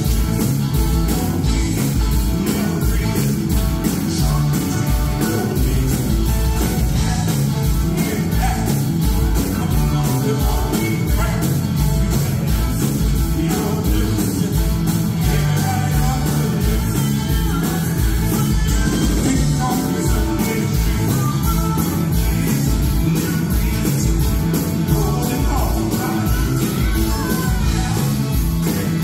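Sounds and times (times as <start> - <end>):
keyboards: 0.0 - 29.0
steady drum beat: 0.0 - 29.0
man singing into microphone: 1.3 - 6.2, 6.9 - 8.8, 9.5 - 12.5, 13.3 - 24.2, 24.8 - 29.0.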